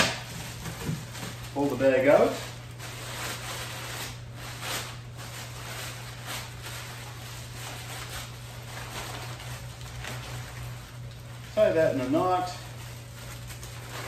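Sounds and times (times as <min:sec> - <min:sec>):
low steady hum: 0:00.0 - 0:14.0
plastic bags rustling: 0:00.0 - 0:14.0.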